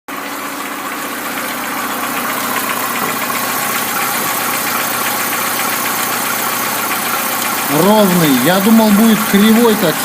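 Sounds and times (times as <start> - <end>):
car engine idling: 0.1 - 10.0
engine cooling fan turning: 0.1 - 10.0.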